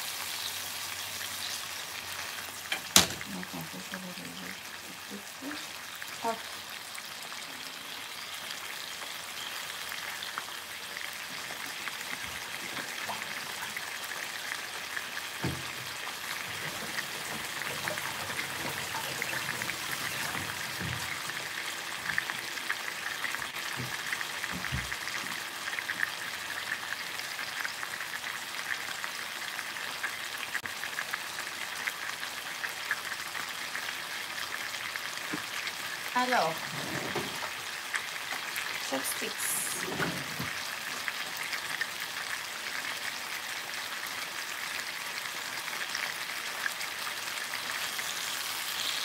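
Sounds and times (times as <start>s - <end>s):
chicken sizzling in a frying pan: 0.0s - 49.0s.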